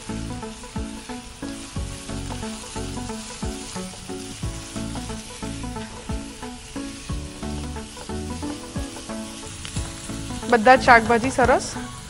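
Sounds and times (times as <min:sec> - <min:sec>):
background music with beat: 0:00.0 - 0:12.0
spatula tossing food in pan: 0:00.0 - 0:12.0
vegetables sizzling in oil: 0:00.0 - 0:12.0.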